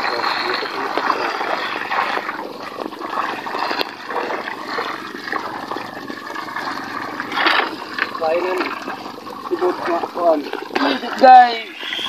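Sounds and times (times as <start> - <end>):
fish thrashing in water: 0.0 - 12.0.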